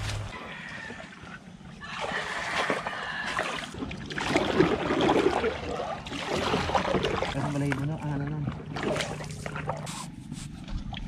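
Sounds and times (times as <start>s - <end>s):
paddle splashing in water: 1.2s - 11.0s.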